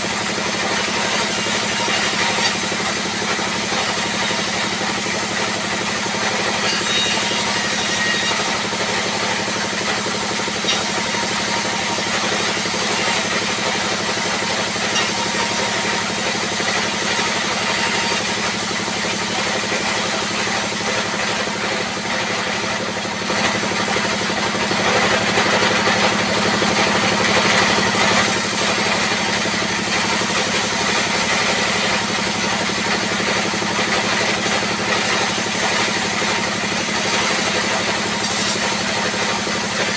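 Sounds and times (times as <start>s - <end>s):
circular saw ripping planks: 0.0s - 23.0s, 24.0s - 39.9s.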